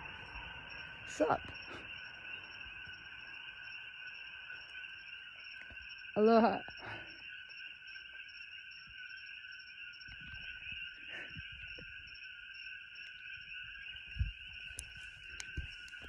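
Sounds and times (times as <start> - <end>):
frogs calling: 0.0 - 16.0
insects calling: 0.0 - 16.0.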